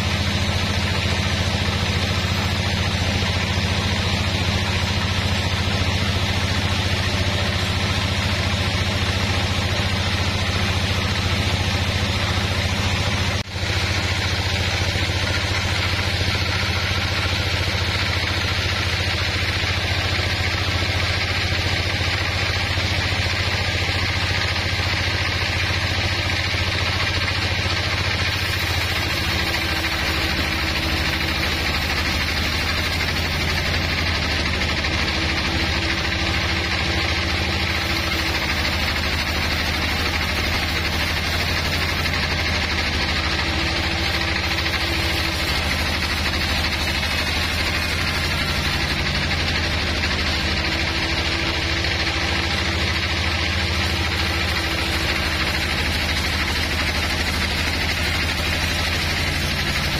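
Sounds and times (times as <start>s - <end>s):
band saw cutting wood: 0.0s - 59.9s
low machine hum: 0.0s - 59.9s.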